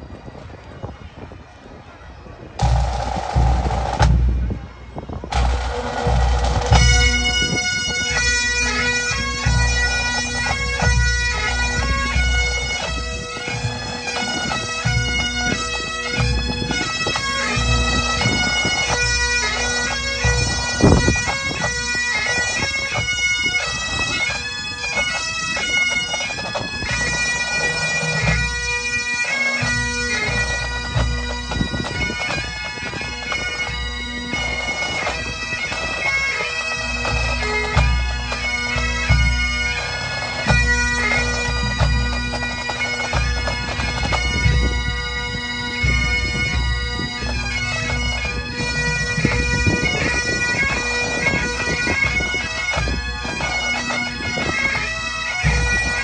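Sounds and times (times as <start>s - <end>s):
bagpipes playing a tune: 2.1s - 56.0s.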